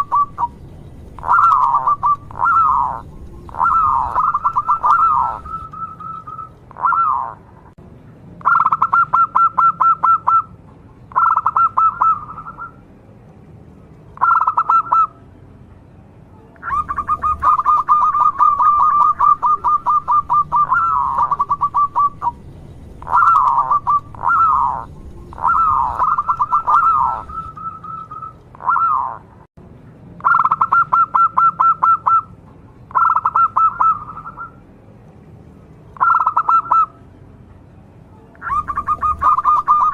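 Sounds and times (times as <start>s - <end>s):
dove purring song: 0.0s - 7.8s, 8.4s - 12.8s, 14.2s - 15.2s, 16.6s - 29.4s, 30.2s - 34.6s, 36.0s - 37.0s, 38.4s - 39.9s.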